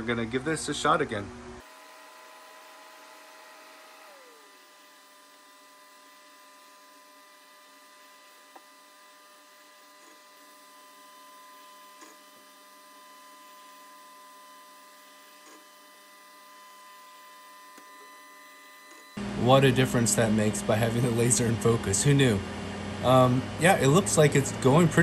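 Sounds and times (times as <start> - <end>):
printer humming with whining tones: 0.0 - 25.0.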